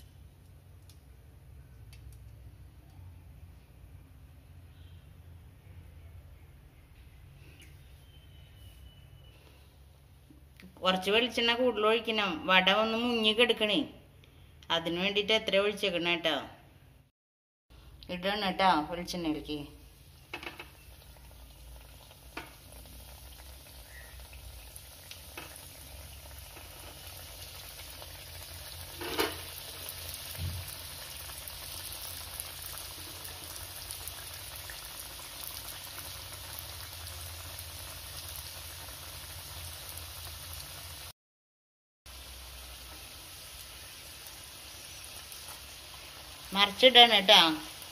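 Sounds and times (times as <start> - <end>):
oil sizzling and bubbling: 0.0 - 13.4, 17.8 - 41.2, 42.1 - 47.9.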